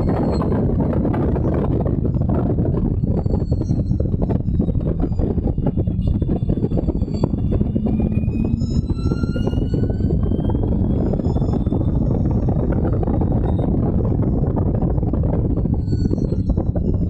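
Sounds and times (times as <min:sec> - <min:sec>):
car engine at full throttle: 0:00.0 - 0:17.0
wind buffeting: 0:00.0 - 0:17.0.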